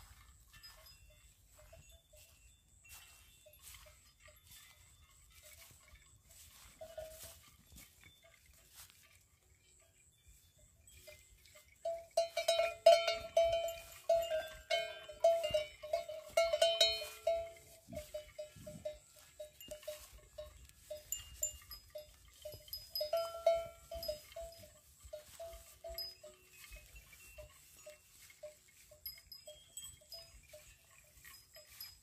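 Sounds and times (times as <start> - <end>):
cowbell clanking: 0.0 - 32.0.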